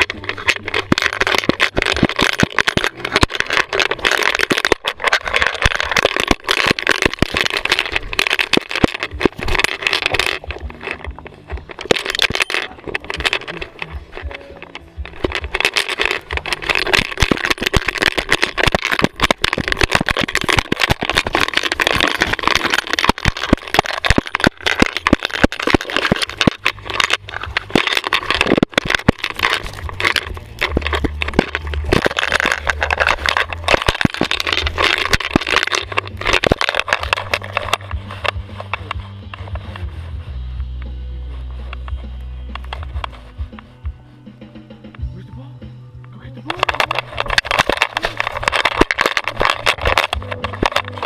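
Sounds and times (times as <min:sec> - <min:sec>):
camera knocking and rattling: 0:00.0 - 0:39.9, 0:41.7 - 0:45.0, 0:46.4 - 0:51.0.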